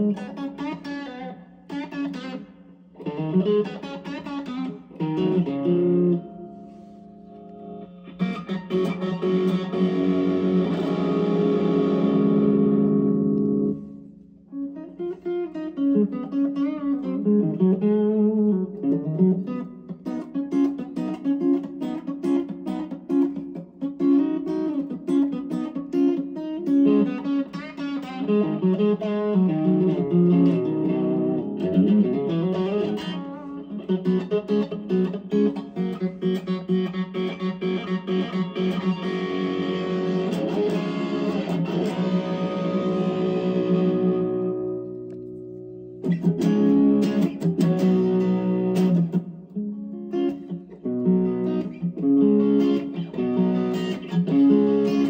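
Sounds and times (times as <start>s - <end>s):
overdriven electric guitar lead: 0.0s - 55.0s.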